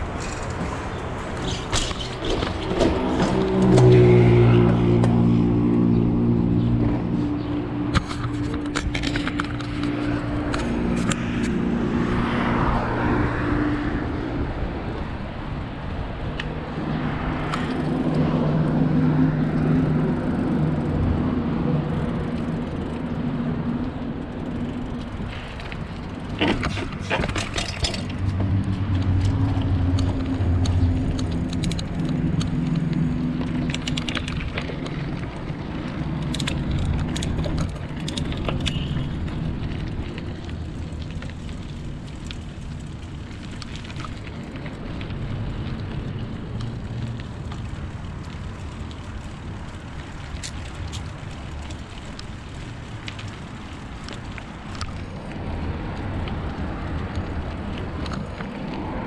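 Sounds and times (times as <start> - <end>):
bicycle rolling noise: 0.0 - 59.0.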